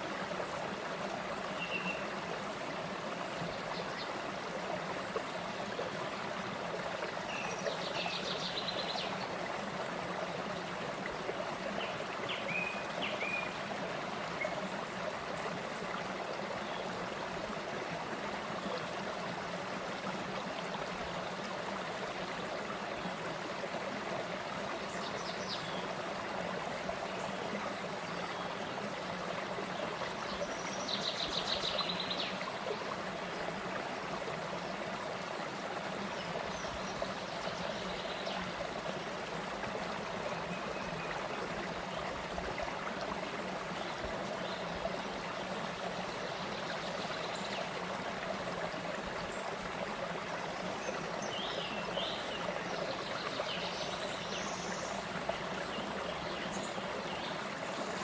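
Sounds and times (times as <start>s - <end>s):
stream rushing and babbling: 0.0s - 58.0s.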